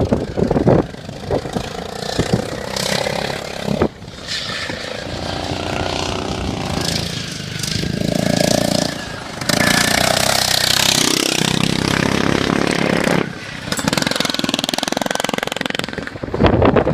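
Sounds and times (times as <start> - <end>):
lawn mower engines running hard: 0.0 - 16.4.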